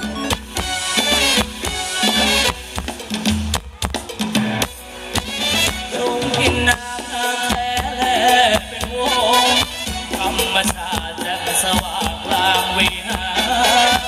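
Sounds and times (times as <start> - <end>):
live band dance music: 0.0 - 14.0.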